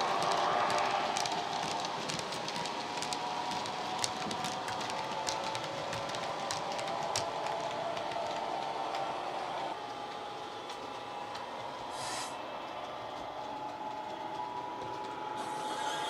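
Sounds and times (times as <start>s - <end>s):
model train wheels clicking on rails: 0.0s - 16.0s.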